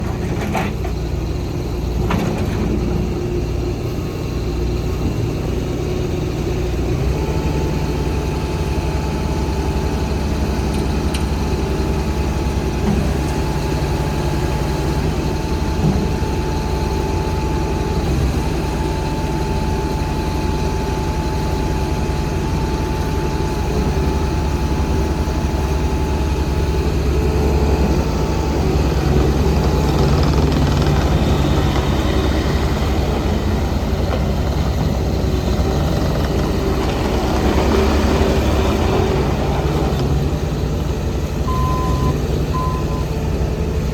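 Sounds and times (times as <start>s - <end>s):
loader diesel engine running: 0.0s - 43.9s.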